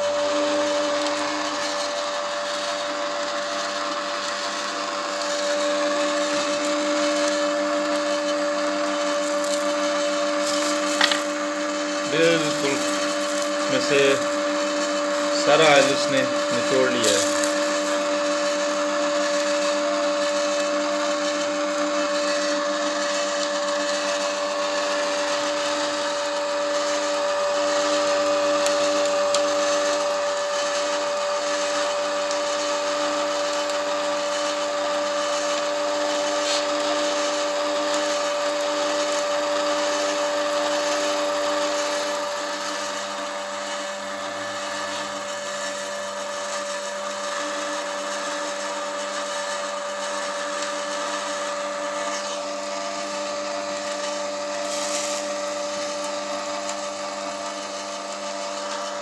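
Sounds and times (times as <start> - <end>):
oil press motor hum and grinding: 0.0 - 59.0.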